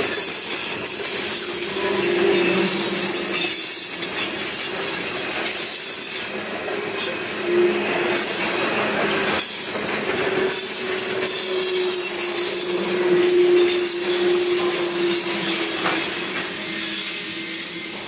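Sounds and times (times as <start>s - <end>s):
freight train rolling past: 0.0s - 18.0s
wheels squealing against rail: 0.0s - 18.0s.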